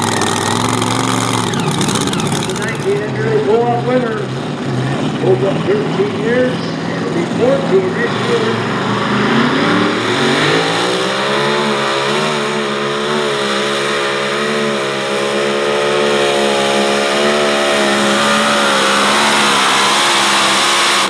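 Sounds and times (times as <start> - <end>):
tractor engine at high revs: 0.0 - 21.0.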